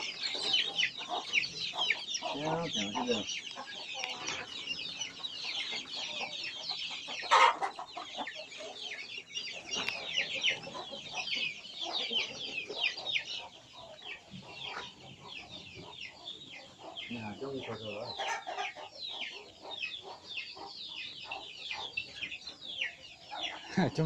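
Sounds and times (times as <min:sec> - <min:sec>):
chicks cheeping: 0:00.0 - 0:24.0.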